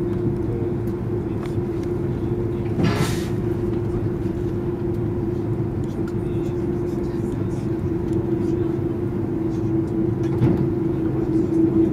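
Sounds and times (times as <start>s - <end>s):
aircraft cabin rumble: 0.0s - 11.9s
constant hum: 0.0s - 11.9s.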